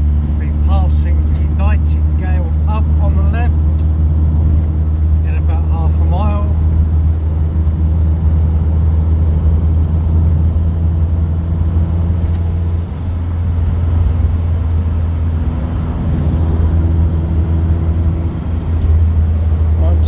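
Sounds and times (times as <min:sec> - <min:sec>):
car engine running: 0:00.0 - 0:20.0
road noise: 0:00.0 - 0:20.0.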